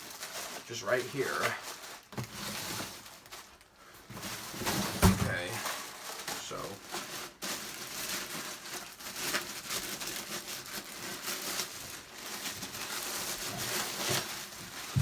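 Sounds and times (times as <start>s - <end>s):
packing material rustling: 0.0s - 15.0s.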